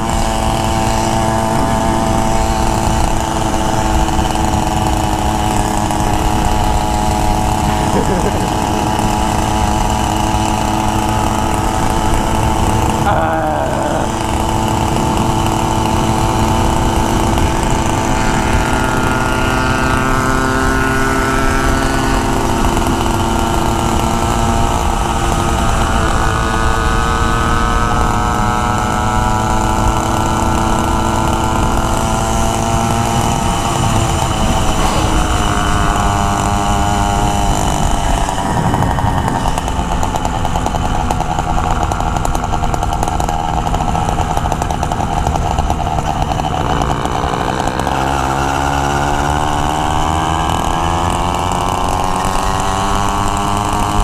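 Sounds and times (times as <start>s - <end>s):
motorbike engine revving: 0.0s - 54.0s
wind and road noise: 0.0s - 54.0s.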